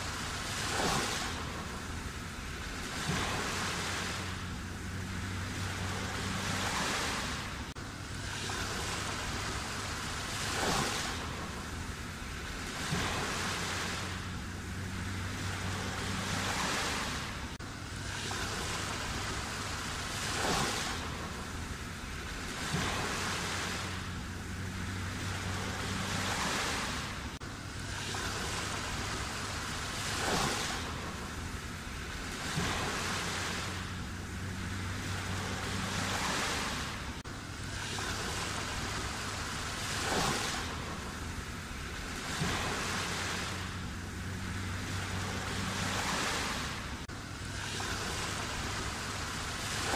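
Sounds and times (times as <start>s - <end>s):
sea waves breaking: 0.0s - 49.9s
wave crashing: 0.0s - 49.9s.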